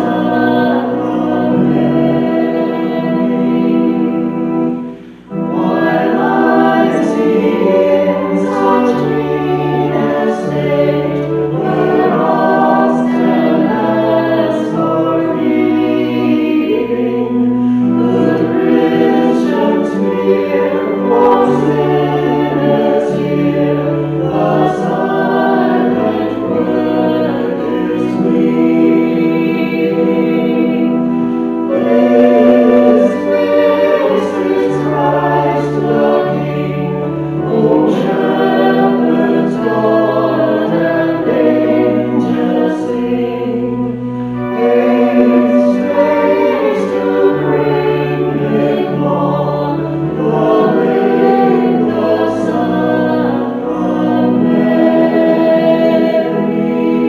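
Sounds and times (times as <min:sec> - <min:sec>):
choir singing a hymn: 0:00.0 - 0:57.0
sustained instrumental accompaniment: 0:00.0 - 0:57.0.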